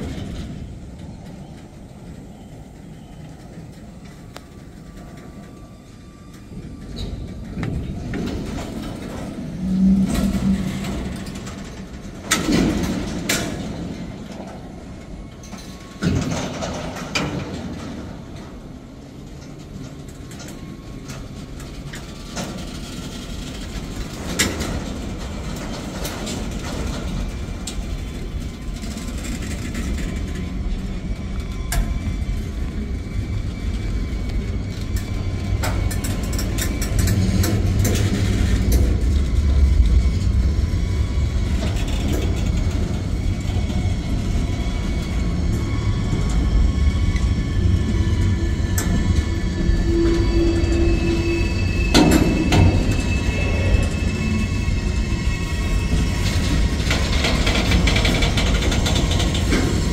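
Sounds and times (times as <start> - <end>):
train engine hum: 0.0 - 59.9
train wheels rumbling on rail: 0.0 - 59.9.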